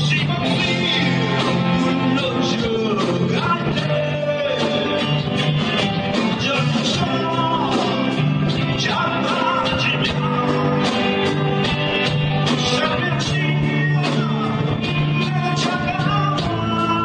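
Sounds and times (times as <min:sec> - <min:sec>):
heavy metal band playing live: 0:00.0 - 0:17.0.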